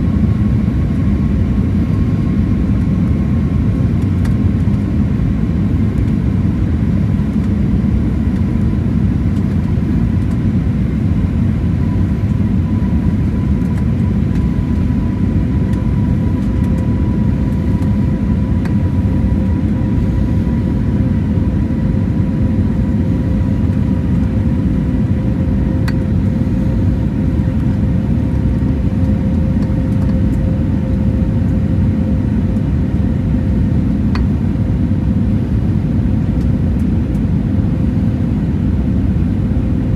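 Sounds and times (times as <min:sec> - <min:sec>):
airplane cabin engine rumble: 0:00.0 - 0:39.9
faint steady hums: 0:00.1 - 0:39.9.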